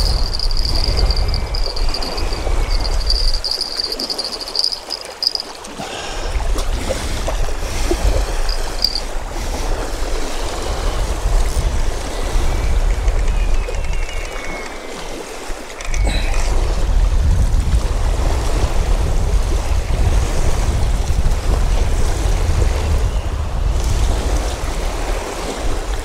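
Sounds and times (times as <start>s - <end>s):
waves lapping on rocks: 0.0s - 22.8s, 23.7s - 26.0s
wind buffeting microphone: 0.0s - 26.0s.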